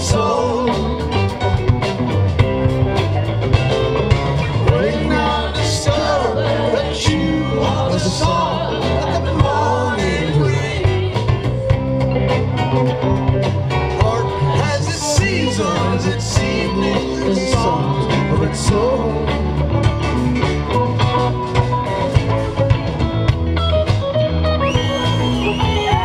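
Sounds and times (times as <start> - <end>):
electric guitar: 0.0 - 26.0.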